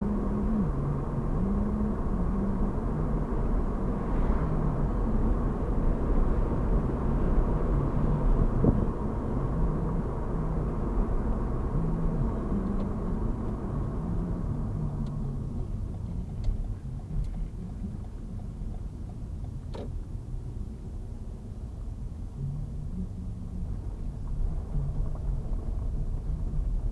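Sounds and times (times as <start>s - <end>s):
car engine and road rumble: 0.0s - 26.9s.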